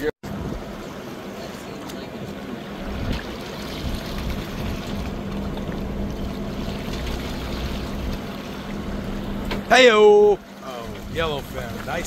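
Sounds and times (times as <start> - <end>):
boat machinery humming: 0.0 - 12.0
water splashing and rushing: 0.0 - 12.0.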